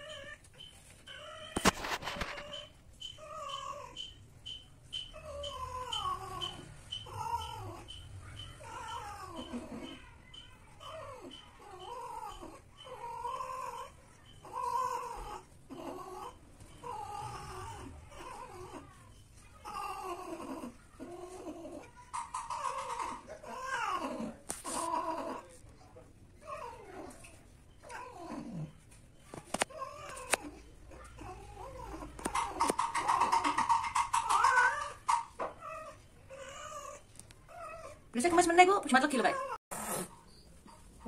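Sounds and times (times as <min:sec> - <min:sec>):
cats yowling: 0:00.0 - 0:04.2, 0:05.0 - 0:19.0, 0:19.6 - 0:25.6, 0:26.4 - 0:28.8, 0:29.5 - 0:38.1.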